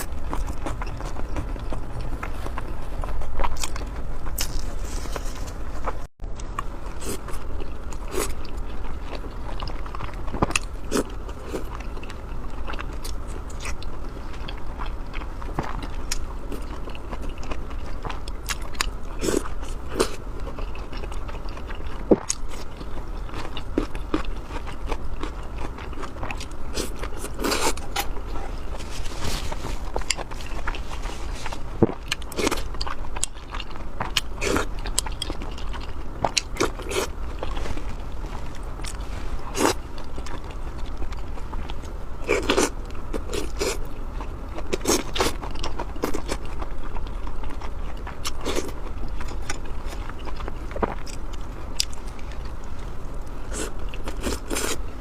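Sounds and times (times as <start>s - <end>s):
close-miked chewing: 0.0s - 55.0s
low hum: 0.0s - 55.0s.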